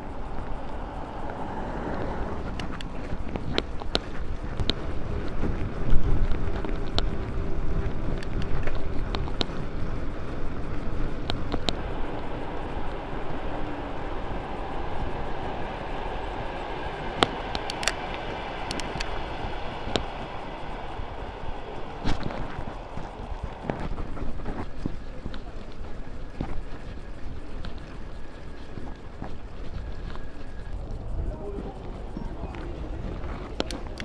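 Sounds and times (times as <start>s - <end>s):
bicycle clicks and rattles: 0.0s - 34.0s
bicycle tyres rumbling: 0.0s - 34.0s
wind on microphone: 0.0s - 34.0s.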